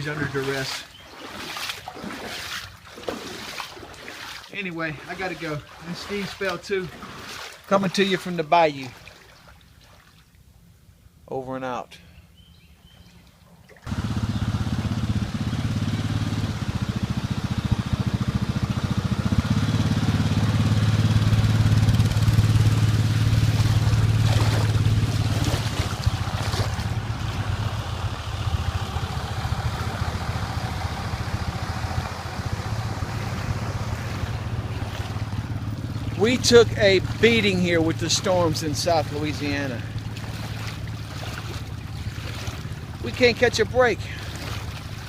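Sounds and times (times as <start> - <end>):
engine low drone: 0.0 - 9.8, 12.0 - 45.0.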